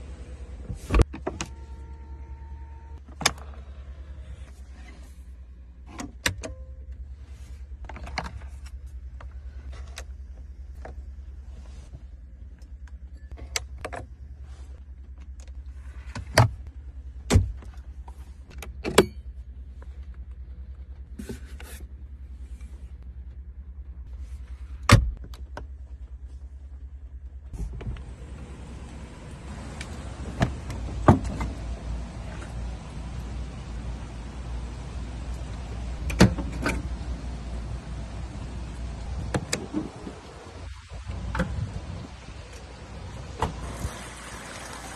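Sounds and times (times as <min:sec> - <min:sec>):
low cabin hum: 0:00.0 - 0:44.9.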